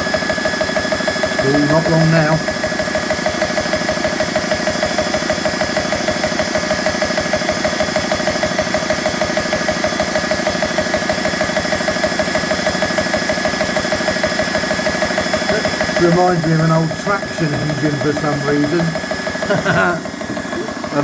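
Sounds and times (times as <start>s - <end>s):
air compressor chugging: 0.0s - 21.0s.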